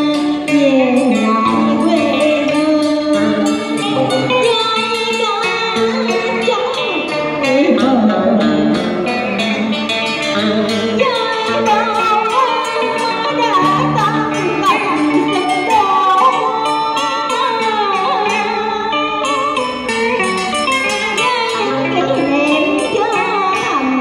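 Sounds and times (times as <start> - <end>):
plucked electric guitar: 0.0 - 24.0
woman singing ornamented melody: 0.1 - 8.4, 10.9 - 24.0.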